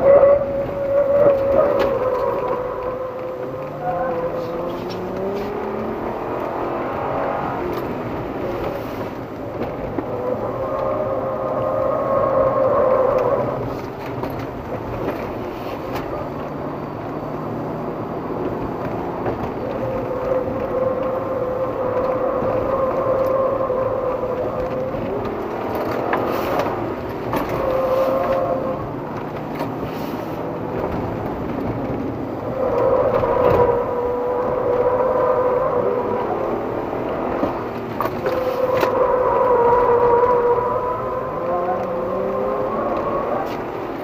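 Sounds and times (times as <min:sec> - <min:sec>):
car engine: 0:00.0 - 0:44.0
tyre noise: 0:00.0 - 0:44.0.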